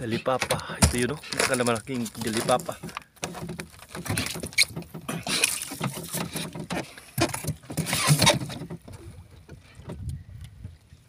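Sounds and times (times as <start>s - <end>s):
knocks and thumps on boat hull: 0.4s - 1.5s, 2.3s - 10.1s.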